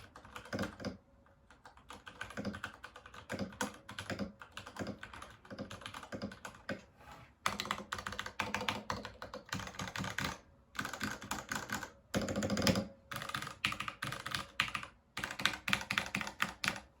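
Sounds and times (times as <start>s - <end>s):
mechanical keyboard typing: 0.0s - 17.0s.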